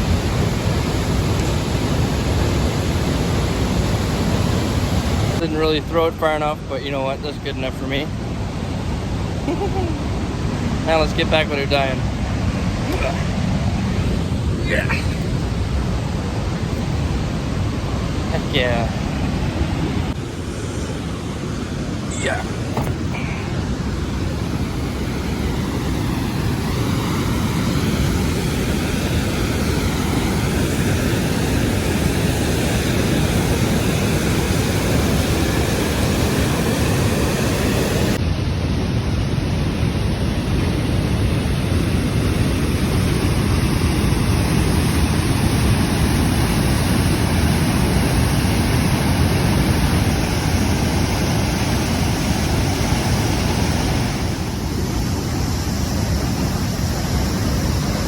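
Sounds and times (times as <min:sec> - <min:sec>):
waterfall roaring: 0:00.0 - 0:38.2, 0:40.4 - 0:58.0.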